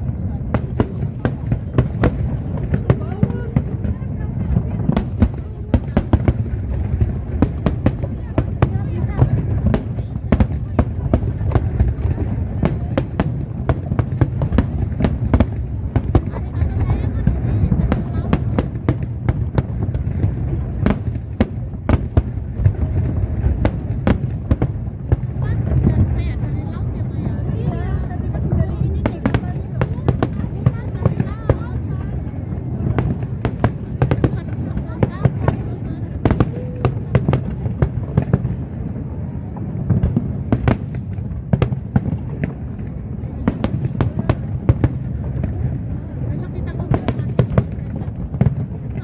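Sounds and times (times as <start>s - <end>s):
fireworks bangs: 0.0s - 49.0s.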